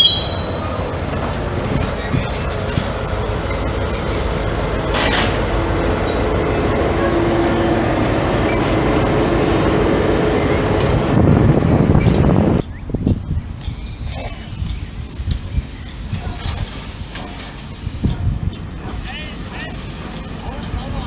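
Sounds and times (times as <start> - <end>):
diesel locomotive engine running: 0.0 - 21.0
train wheels on rails: 0.0 - 21.0.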